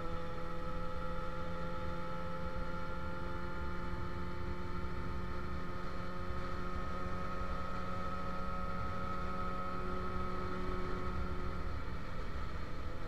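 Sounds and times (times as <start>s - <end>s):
motorcycle engine cruising: 0.0s - 13.0s
wind drone: 0.0s - 13.0s.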